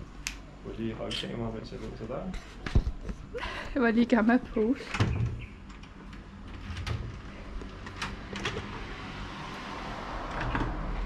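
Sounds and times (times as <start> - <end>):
low background hum: 0.0 - 9.1.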